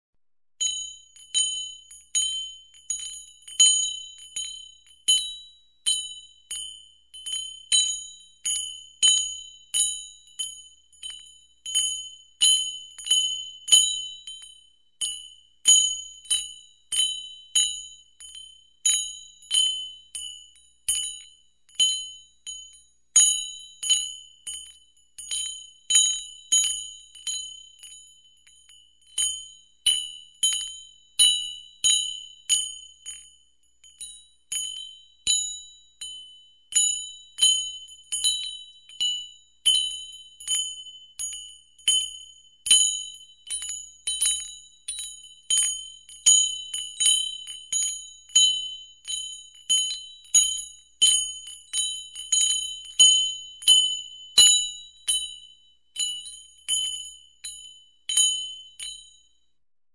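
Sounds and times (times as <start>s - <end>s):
small bell ringing: 0.6s - 59.4s.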